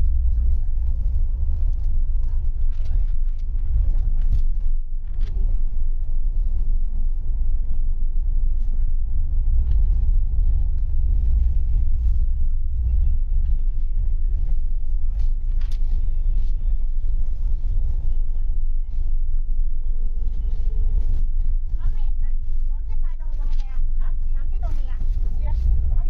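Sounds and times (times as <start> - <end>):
bus engine and road noise: 0.0 - 26.0.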